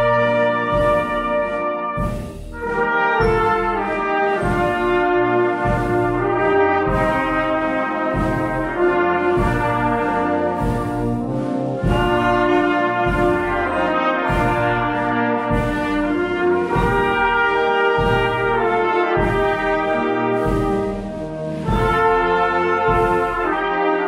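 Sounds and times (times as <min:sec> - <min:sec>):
brass band playing chords: 0:00.0 - 0:24.0.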